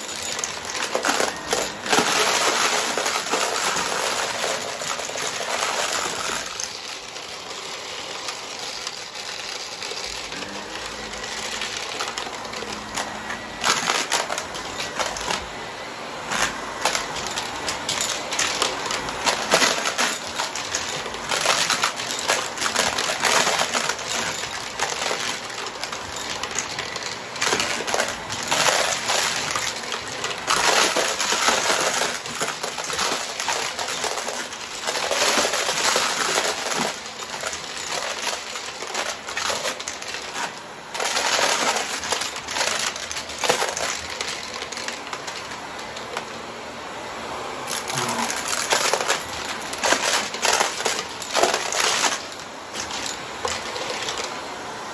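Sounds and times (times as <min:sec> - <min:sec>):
coins rattling through vacuum: 0:00.0 - 0:15.6, 0:16.2 - 0:46.4, 0:47.7 - 0:54.5
vacuum cleaner running: 0:00.0 - 0:54.9.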